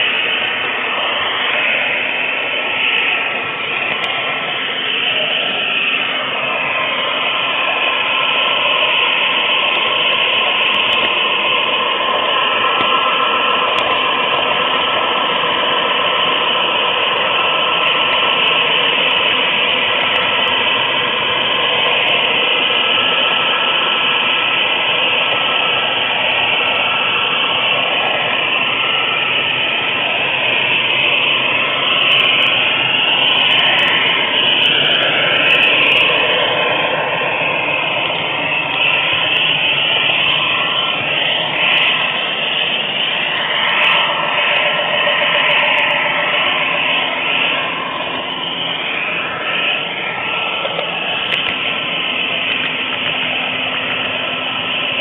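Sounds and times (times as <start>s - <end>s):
model train wheels rolling: 0.0s - 55.0s
motor whine: 0.0s - 55.0s.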